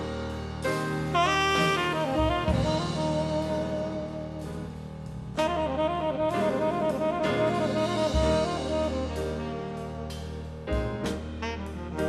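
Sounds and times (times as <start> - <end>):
bass: 0.0 - 12.0
drums: 0.0 - 12.0
saxophone melody: 1.1 - 4.8, 5.4 - 12.0.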